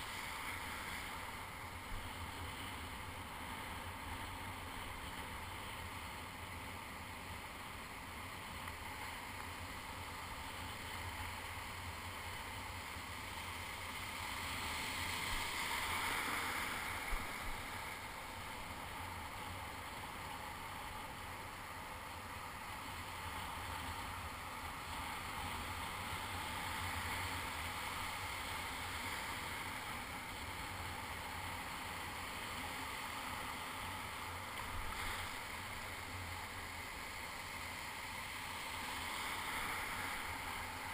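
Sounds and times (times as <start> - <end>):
surf washing in shallow water: 0.0 - 40.9.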